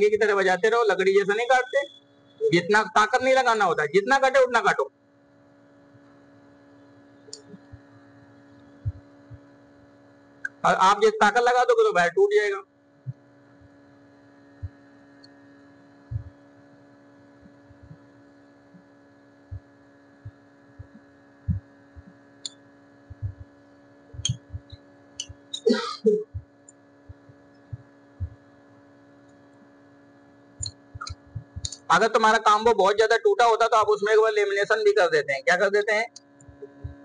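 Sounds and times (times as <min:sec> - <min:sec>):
electrical machine hum: 0:00.0 - 0:37.0.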